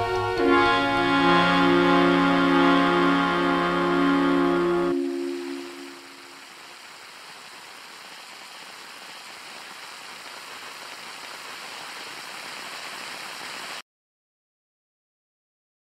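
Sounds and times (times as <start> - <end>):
steady hiss of noise: 0.0 - 13.8.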